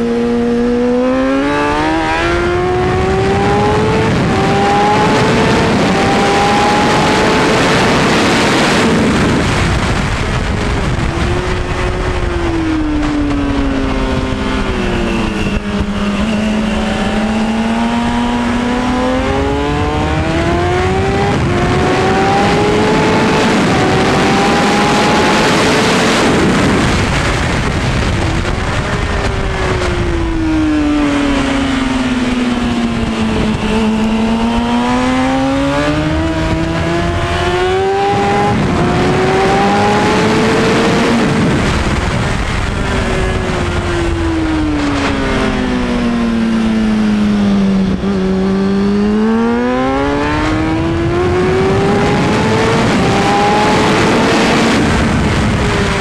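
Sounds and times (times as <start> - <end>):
heavy wind rush: 0.0 - 56.0
motorcycle engine at high revs: 0.0 - 56.0.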